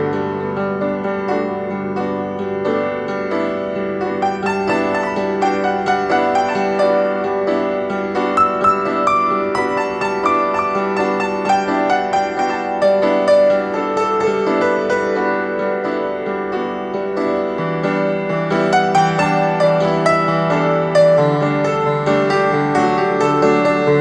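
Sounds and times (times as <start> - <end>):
piano playing: 0.0 - 24.0.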